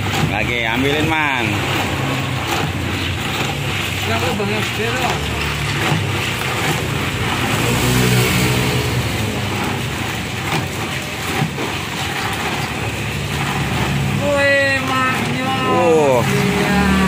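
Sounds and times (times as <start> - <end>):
traffic engines humming: 0.0 - 17.0.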